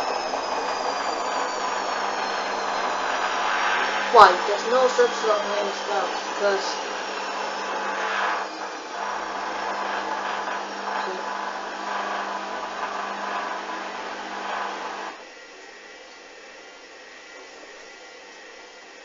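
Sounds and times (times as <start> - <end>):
washing machine drum motor humming: 0.0 - 19.0.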